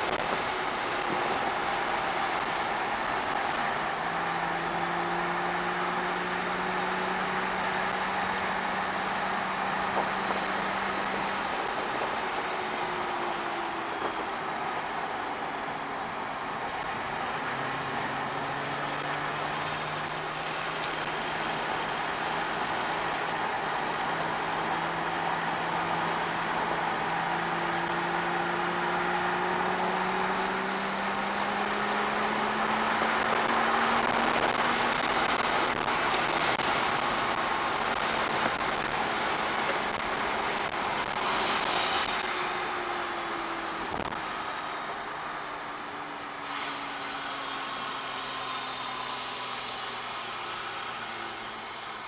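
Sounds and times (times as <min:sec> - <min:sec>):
car engine pulling hard: 0:00.0 - 0:52.0.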